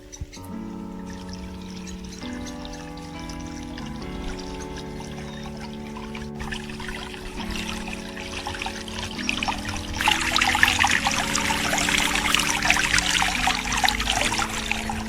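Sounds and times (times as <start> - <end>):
soft sustained tones: 0.0 - 15.0
water splashing and trickling: 0.0 - 15.0.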